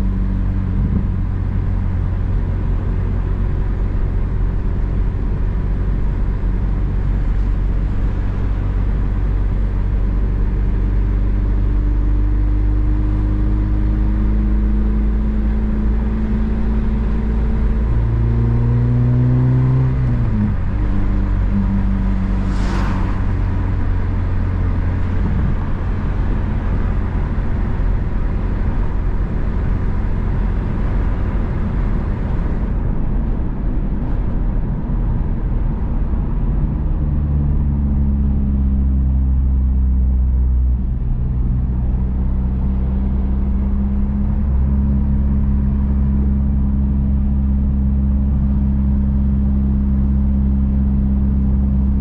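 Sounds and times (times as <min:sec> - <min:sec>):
car engine drone: 0:00.0 - 0:52.0
road noise: 0:00.0 - 0:52.0.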